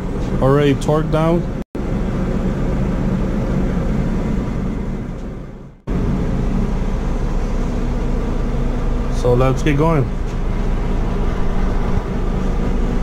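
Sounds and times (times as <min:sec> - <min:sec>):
droning low tones: 0:00.0 - 0:13.0.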